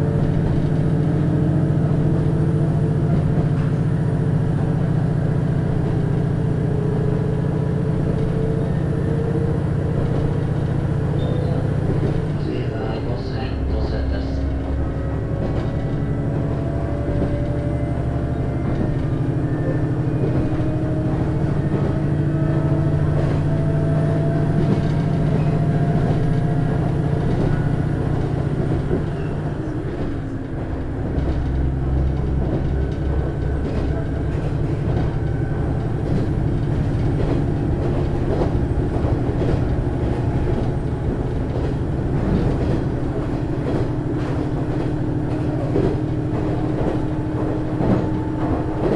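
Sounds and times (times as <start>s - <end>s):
diesel railcar engine pulling: 0.0s - 48.9s
train wheels on rails: 0.0s - 48.9s.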